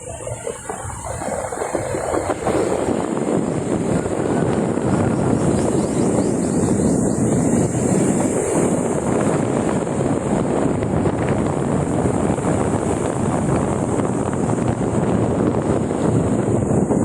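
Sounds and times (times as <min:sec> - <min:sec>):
vehicle road noise: 0:00.0 - 0:17.0
wind on microphone: 0:00.0 - 0:17.0.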